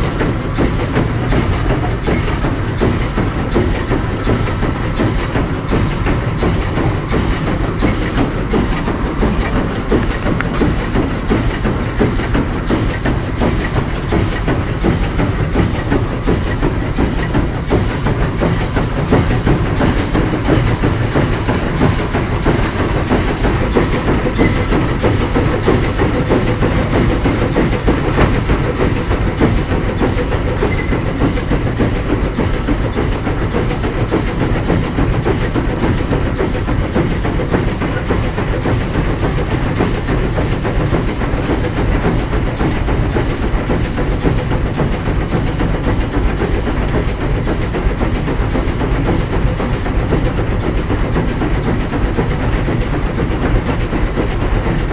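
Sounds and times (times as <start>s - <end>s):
steam hiss: 0.0s - 54.9s
steam locomotive running: 0.0s - 54.9s
wheels on rail: 0.0s - 54.9s.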